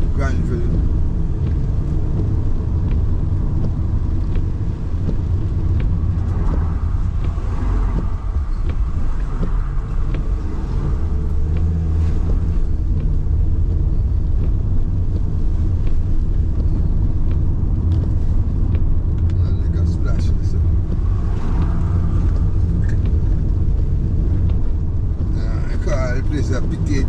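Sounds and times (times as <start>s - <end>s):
car engine and tyres rumbling: 0.0s - 27.0s
light ticks: 0.0s - 27.0s.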